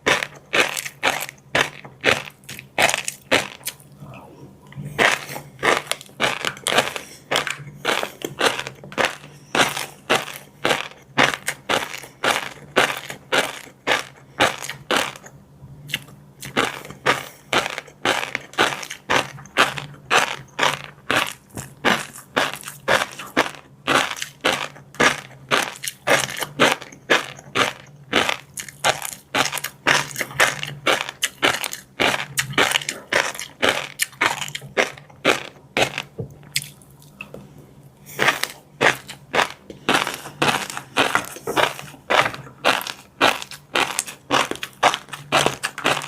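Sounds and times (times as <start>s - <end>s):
chewing crunchy food: 0.0s - 46.0s
faint low hum: 0.0s - 46.0s.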